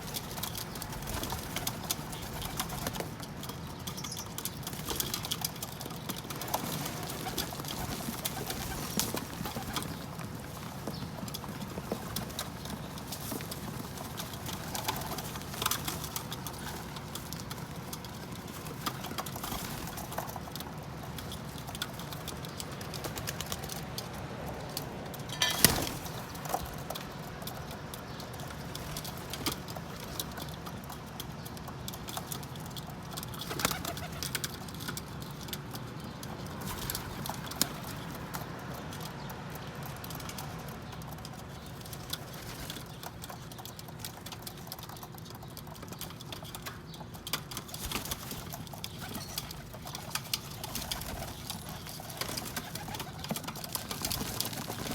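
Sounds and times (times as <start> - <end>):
pigeons cooing: 0.0 - 31.2, 31.8 - 39.3, 45.9 - 54.9
pigeons pecking taps: 0.0 - 54.9.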